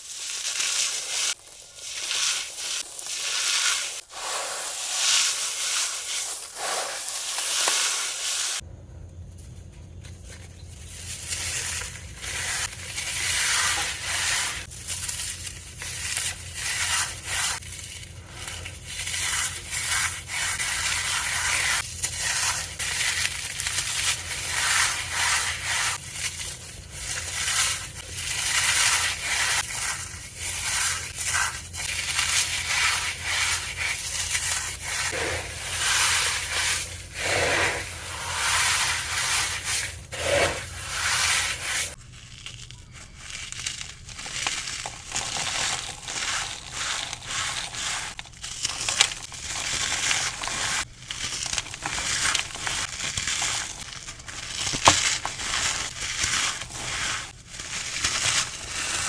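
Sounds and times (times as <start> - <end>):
crumbly material crunching: 9.3 - 59.0.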